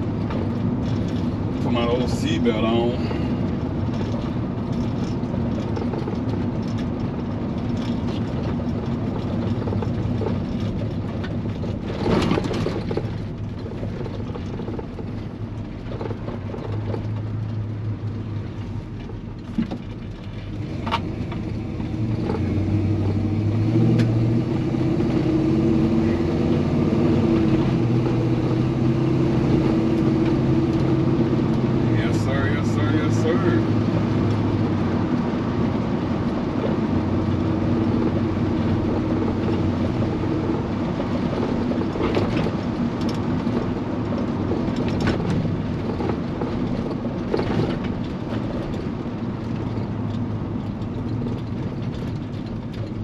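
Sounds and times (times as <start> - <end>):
pickup engine running: 0.0 - 53.0.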